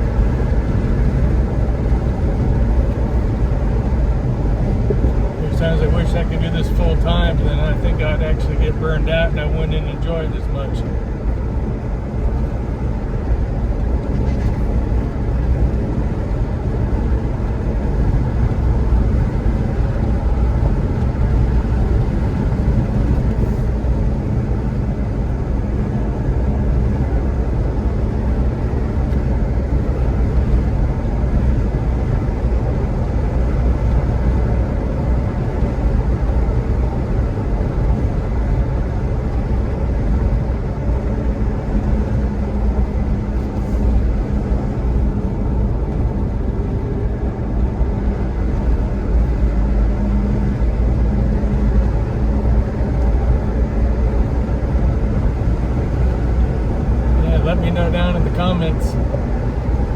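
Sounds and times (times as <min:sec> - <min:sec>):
vehicle interior road rumble: 0:00.0 - 0:59.9.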